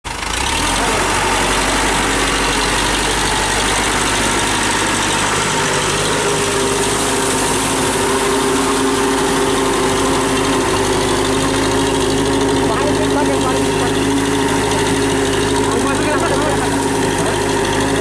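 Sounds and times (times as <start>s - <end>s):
tractor diesel engine under load: 0.0s - 18.0s
wheels churning mud: 0.1s - 18.0s.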